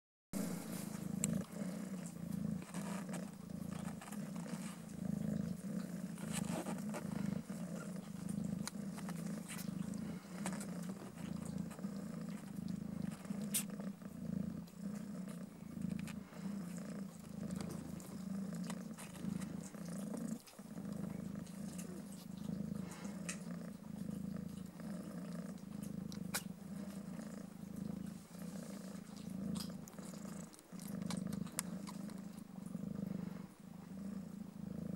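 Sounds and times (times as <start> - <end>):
cat purring: 0.4 - 34.9.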